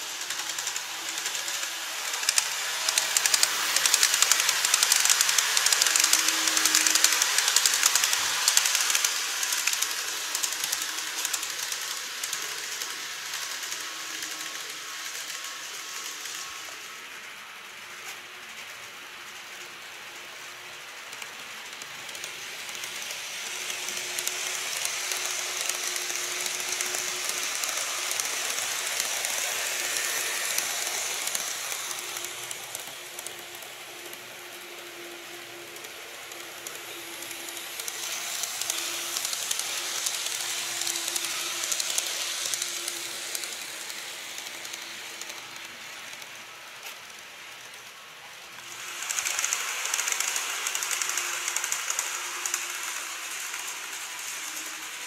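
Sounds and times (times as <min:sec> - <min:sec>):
faint motor whine: 0:00.0 - 0:55.0
model train wheels clattering: 0:00.0 - 0:55.0.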